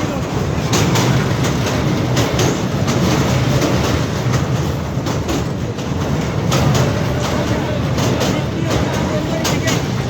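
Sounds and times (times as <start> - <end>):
train rumbling over bridge: 0.0 - 10.0
wheels clacking over rail joints: 0.0 - 10.0.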